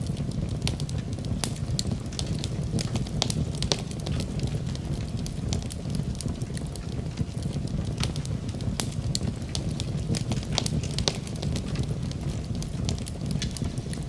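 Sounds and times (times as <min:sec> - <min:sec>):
low rumble: 0:00.0 - 0:14.0
wood fire crackling: 0:00.0 - 0:14.0.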